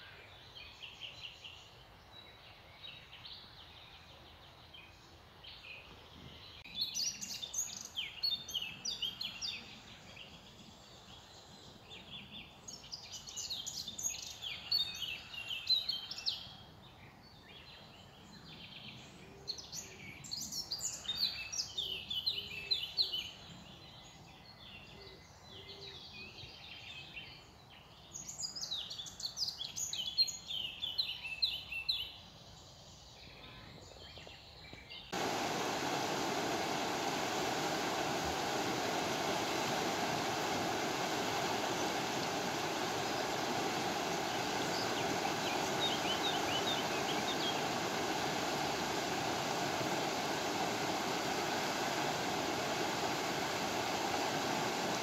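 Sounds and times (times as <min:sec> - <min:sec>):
faint steady background hiss: 0:00.0 - 0:55.0
small songbird singing: 0:00.0 - 0:55.0.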